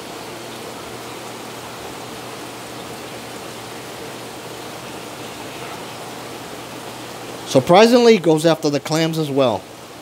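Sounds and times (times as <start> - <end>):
rushing water hiss: 0.0 - 10.0.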